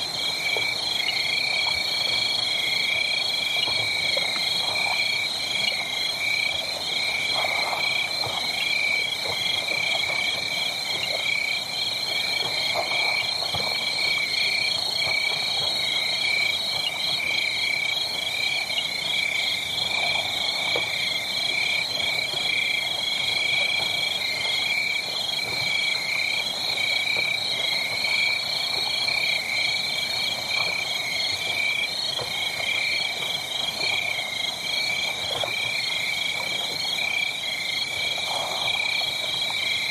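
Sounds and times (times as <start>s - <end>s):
tree frogs and insects trilling: 0.0s - 39.9s.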